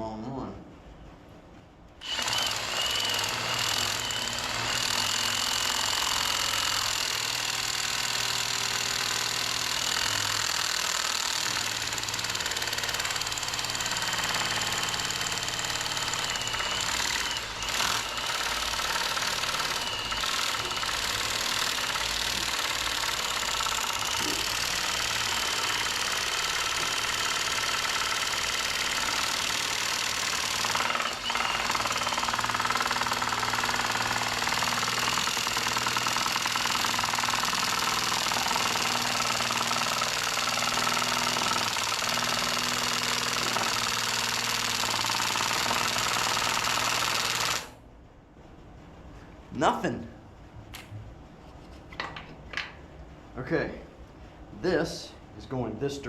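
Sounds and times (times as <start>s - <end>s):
cordless drill whining: 2.0s - 47.8s.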